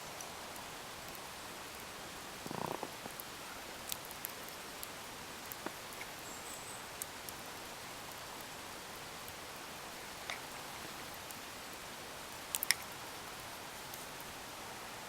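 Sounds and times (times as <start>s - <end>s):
wood fire crackling and popping: 0.1s - 6.2s, 6.9s - 14.4s.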